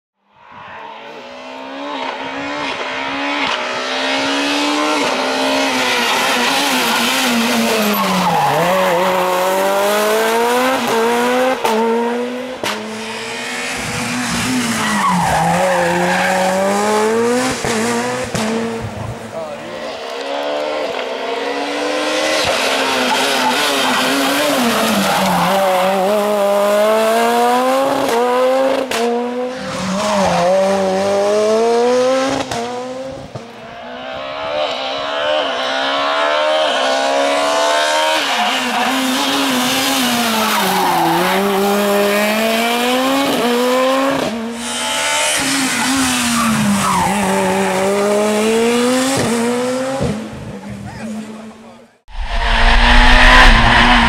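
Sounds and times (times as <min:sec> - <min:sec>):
rally car engines revving: 0:00.6 - 0:54.0.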